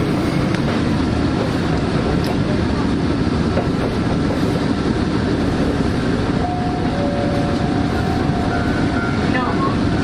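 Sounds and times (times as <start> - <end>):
railcar engine and wheels rumbling: 0.0 - 10.0.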